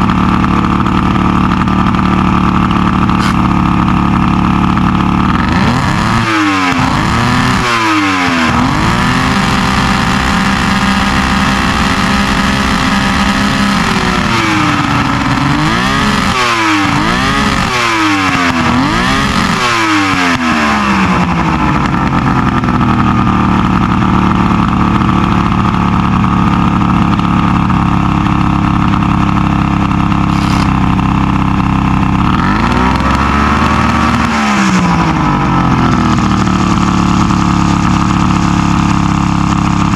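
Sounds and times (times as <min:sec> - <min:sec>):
outboard motor revving: 0:00.0 - 0:39.9.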